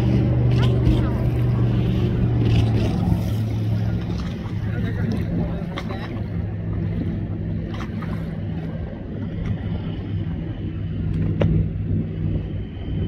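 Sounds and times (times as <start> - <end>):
motorboat engine drone: 0.0 - 13.0
water rushing past hull: 0.0 - 13.0.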